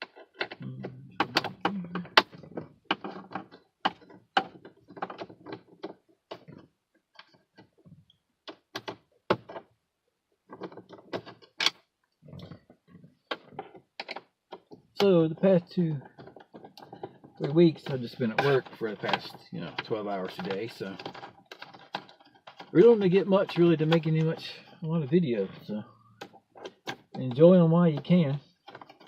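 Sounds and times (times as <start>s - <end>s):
plastic trim clicking and knocking: 0.0s - 7.8s, 8.4s - 9.7s, 10.5s - 11.8s, 12.6s - 15.1s, 16.0s - 29.0s.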